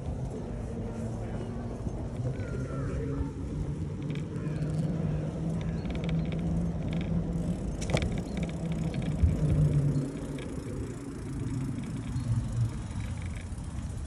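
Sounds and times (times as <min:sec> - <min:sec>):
tyres on metal bridge deck: 0:00.0 - 0:14.0
wind rumble on microphone: 0:00.0 - 0:14.0
tyres rolling on wet pavement: 0:02.0 - 0:14.0.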